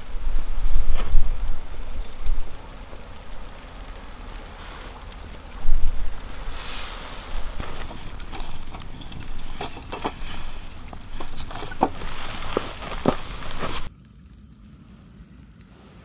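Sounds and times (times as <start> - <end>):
light sharp clicks and knocks: 0.0 - 13.9
steady low rumble: 0.0 - 16.0.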